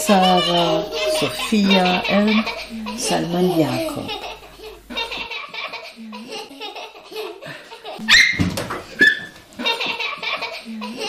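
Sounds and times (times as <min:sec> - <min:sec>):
children giggling and laughing: 0:00.0 - 0:08.3, 0:08.9 - 0:11.0.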